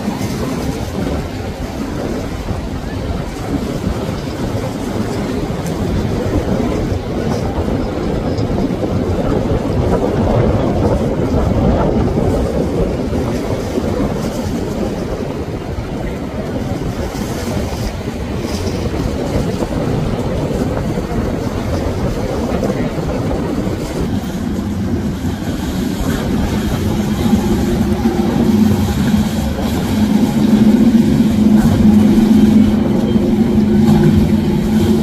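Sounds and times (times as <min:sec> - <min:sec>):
motorboat engines rumbling: 0:00.0 - 0:35.0.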